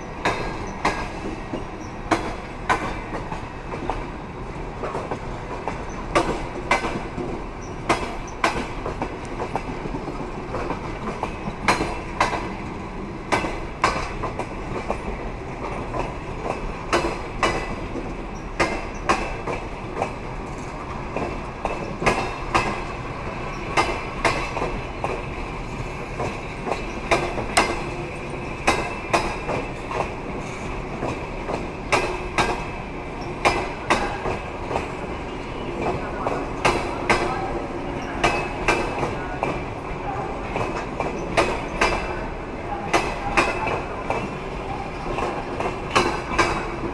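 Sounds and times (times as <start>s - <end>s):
train wheels clickety-clack on rails: 0.0s - 46.9s.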